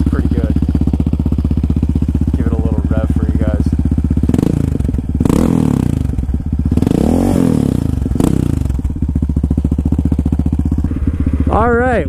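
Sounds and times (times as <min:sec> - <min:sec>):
quad bike engine idling and revving: 0:00.0 - 0:12.0.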